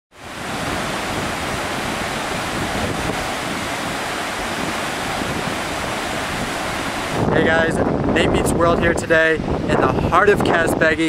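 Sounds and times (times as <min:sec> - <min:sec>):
steady rushing noise: 0:00.1 - 0:11.0.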